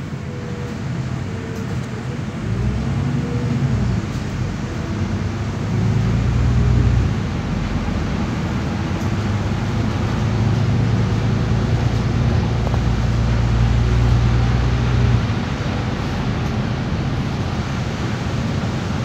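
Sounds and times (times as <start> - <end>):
bus engine drone: 0.0 - 19.0.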